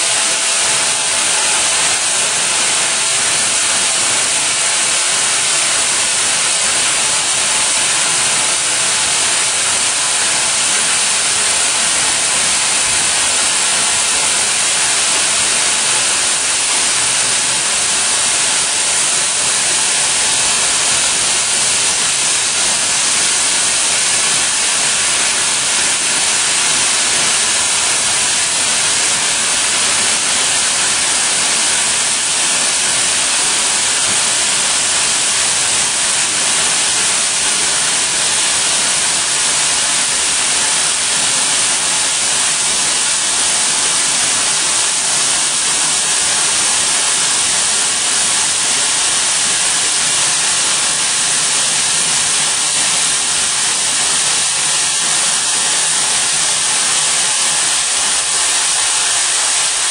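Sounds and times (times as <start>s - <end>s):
high-pitched air hiss: 0.0s - 59.9s.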